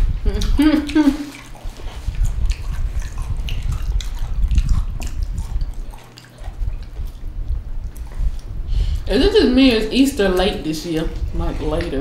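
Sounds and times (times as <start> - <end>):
wet chewing and mouth clicks: 0.2 - 12.0
low rumble: 1.6 - 12.0.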